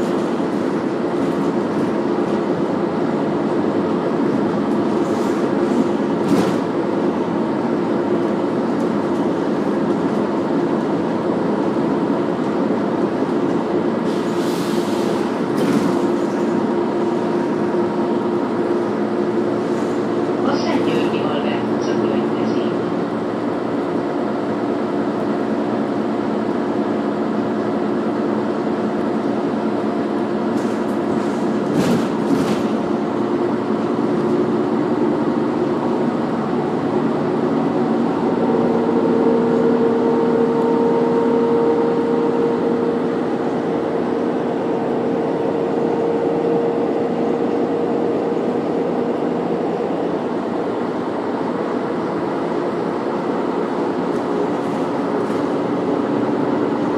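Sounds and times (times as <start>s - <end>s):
bus engine droning: 0.0s - 56.9s
tyres rolling on road: 0.0s - 56.9s.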